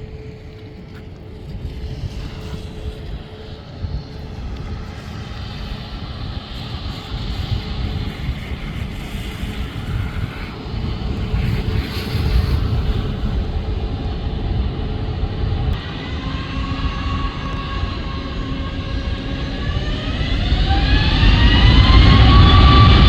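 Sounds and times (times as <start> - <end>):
jet engines rumbling: 0.0 - 23.0
rising engine whine: 0.0 - 23.0.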